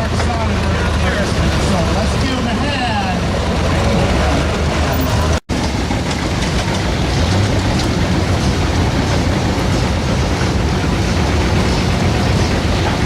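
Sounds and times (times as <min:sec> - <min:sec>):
tractor engine running hard: 0:00.0 - 0:13.0.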